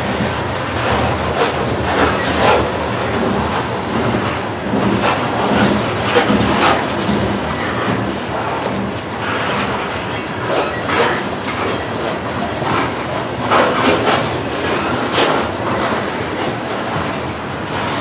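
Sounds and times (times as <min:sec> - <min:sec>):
train cars rolling on rails: 0:00.0 - 0:18.0
wheels clacking over rail joints: 0:00.0 - 0:18.0.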